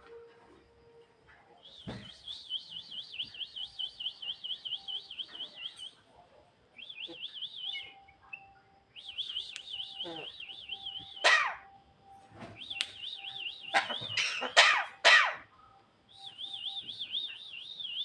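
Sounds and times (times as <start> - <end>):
songbird whistling rising notes: 1.6 - 6.0, 6.8 - 14.5, 15.6 - 18.0.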